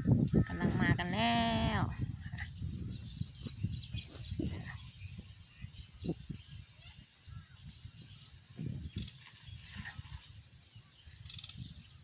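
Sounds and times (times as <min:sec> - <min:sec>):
small birds chirping: 0:00.0 - 0:12.0
wind on microphone: 0:00.0 - 0:12.0.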